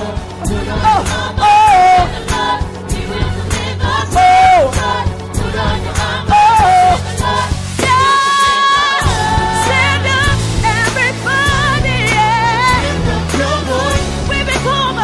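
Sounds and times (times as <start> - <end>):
group of voices singing: 0.0 - 15.0
steady drum beat: 0.0 - 15.0.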